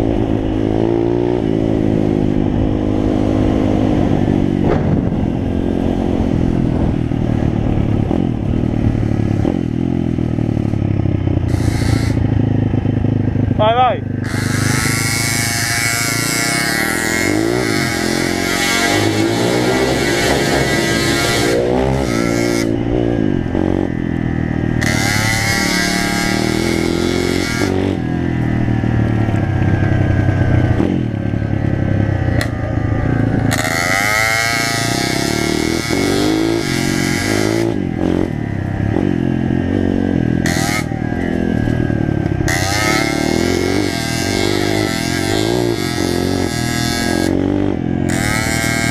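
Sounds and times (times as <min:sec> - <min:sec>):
pit bike engine revving: 0:00.0 - 0:48.9.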